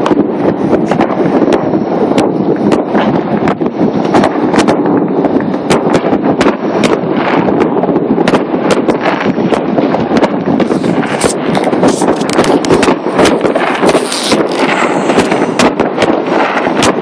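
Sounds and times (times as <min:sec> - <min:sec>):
continuous fireworks roar: 0:00.0 - 0:17.0
fireworks cracking and banging: 0:00.0 - 0:17.0.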